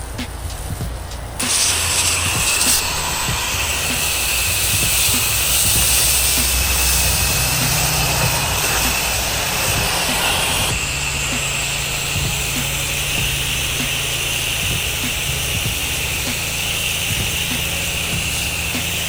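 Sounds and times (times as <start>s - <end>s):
high whine: 0.0s - 19.0s
water spray hissing: 0.0s - 19.0s
motor drone: 1.4s - 19.0s.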